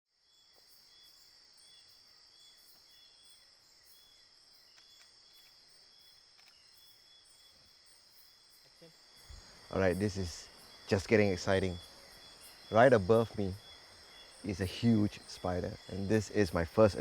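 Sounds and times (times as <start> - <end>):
insect chirps: 0.1 - 17.0
insects buzzing drone: 0.2 - 17.0.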